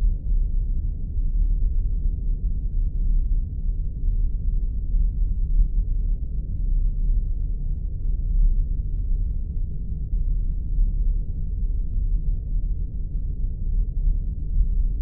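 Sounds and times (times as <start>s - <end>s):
deep spaceship rumble: 0.0s - 15.0s.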